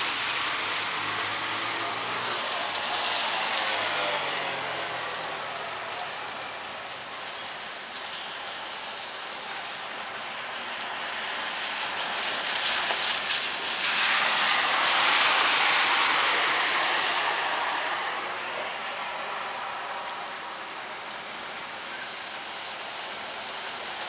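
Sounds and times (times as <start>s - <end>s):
rain and running water: 0.0s - 24.0s
tyres swishing through water: 0.0s - 24.0s.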